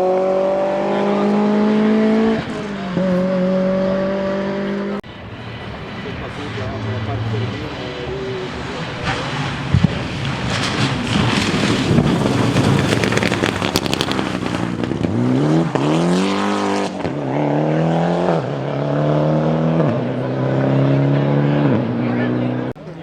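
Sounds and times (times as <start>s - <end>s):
engine accelerating and upshifting: 0.0s - 23.0s
rally car passing: 0.0s - 23.0s.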